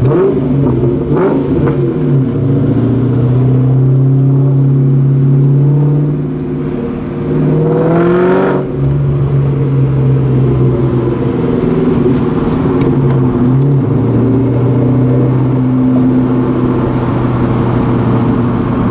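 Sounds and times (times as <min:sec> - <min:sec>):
car engine idling and revving: 0:00.0 - 0:18.9.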